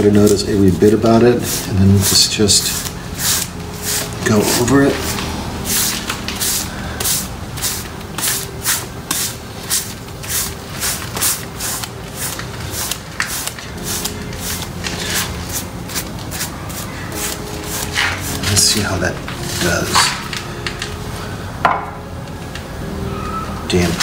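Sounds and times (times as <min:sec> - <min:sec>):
stiff paintbrush scrubbing: 0:00.0 - 0:20.3.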